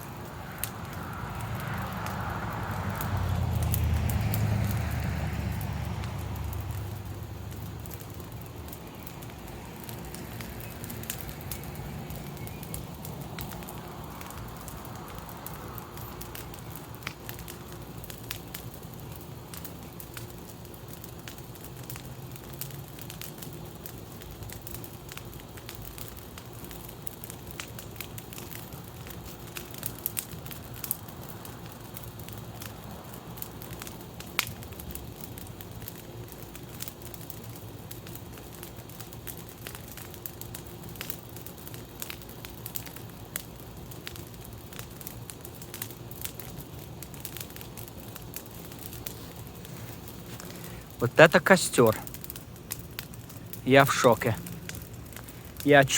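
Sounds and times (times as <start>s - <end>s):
bonfire crackling and popping: 0.0s - 55.9s.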